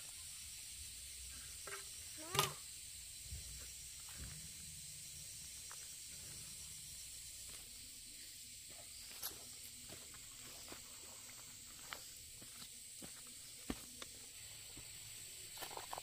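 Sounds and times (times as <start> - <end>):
steady high hiss: 0.0 - 16.0.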